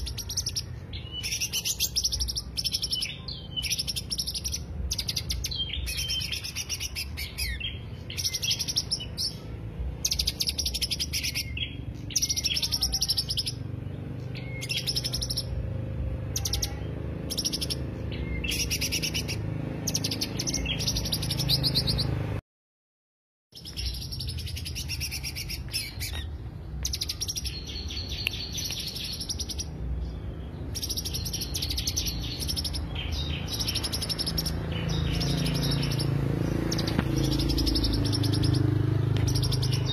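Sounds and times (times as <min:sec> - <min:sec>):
bird singing trilled phrases: 0:00.0 - 0:22.4, 0:23.5 - 0:39.9.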